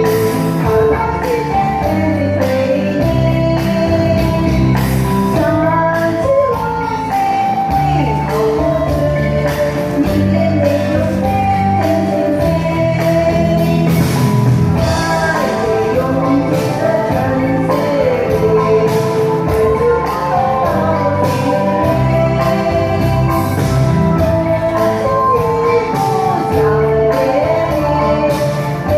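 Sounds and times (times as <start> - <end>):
pop song with singing: 0.0 - 28.9.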